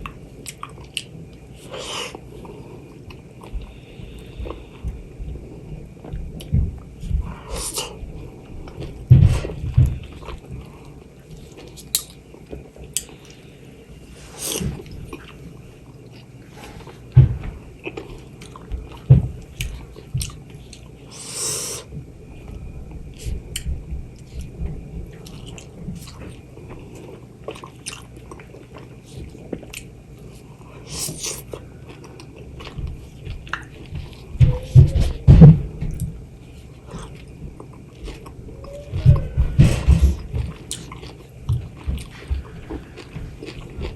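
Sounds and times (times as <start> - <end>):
person chewing juicy fruit: 0.0 - 43.9.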